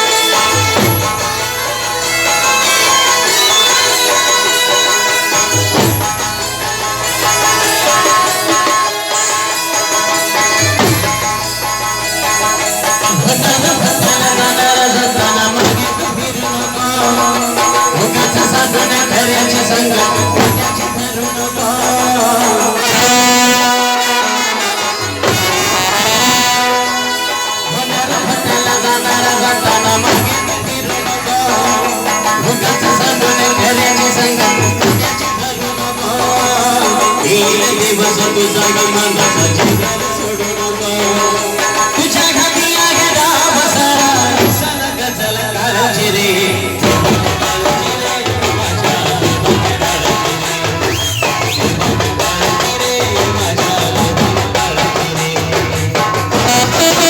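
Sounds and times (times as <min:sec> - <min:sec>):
drums and percussion beat: 0:00.0 - 0:57.0
live band music: 0:00.0 - 0:57.0.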